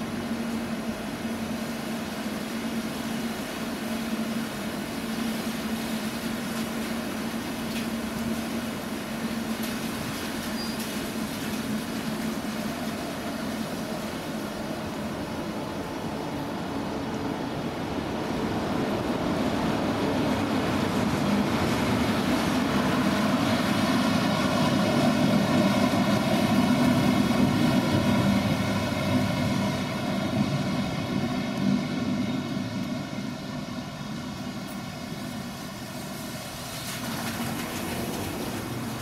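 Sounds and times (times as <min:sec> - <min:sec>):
locomotive whine: 0:00.0 - 0:39.0
train rumbling: 0:00.0 - 0:39.0.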